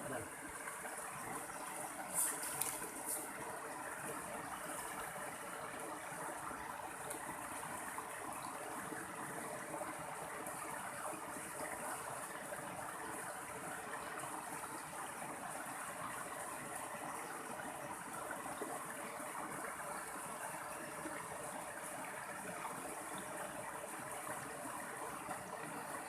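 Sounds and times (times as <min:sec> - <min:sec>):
stream water flowing and splashing: 0:00.0 - 0:26.0.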